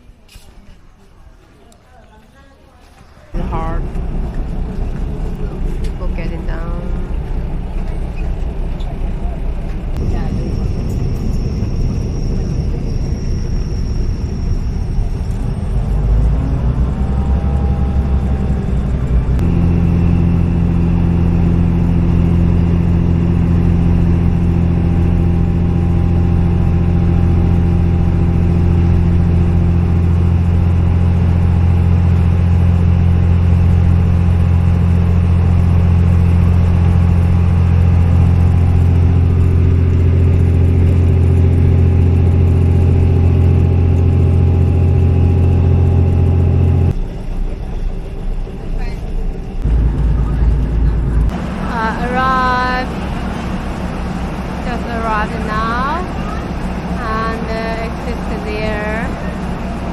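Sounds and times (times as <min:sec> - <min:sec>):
train engine drone: 0:00.0 - 0:59.9
train rumble: 0:00.0 - 0:59.9.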